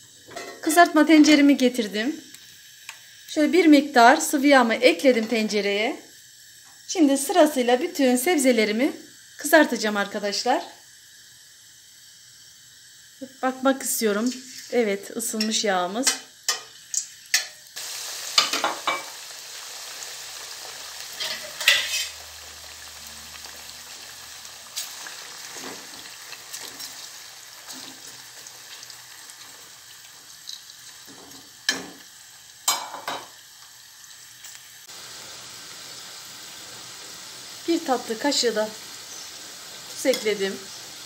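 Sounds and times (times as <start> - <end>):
potatoes sizzling in hot oil: 0.0 - 41.0.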